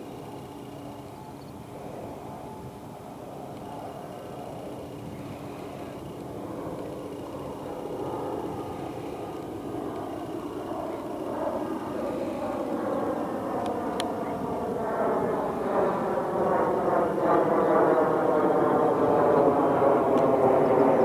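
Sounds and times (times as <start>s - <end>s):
jet engines rumbling overhead: 0.0s - 21.0s.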